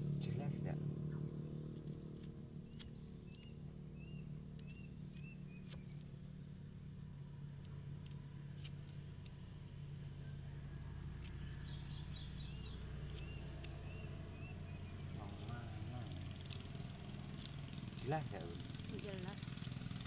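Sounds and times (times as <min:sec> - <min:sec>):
steady low hum: 0:00.0 - 0:20.0
small blade clicking on bark: 0:01.5 - 0:06.5, 0:07.4 - 0:09.8, 0:10.5 - 0:20.0.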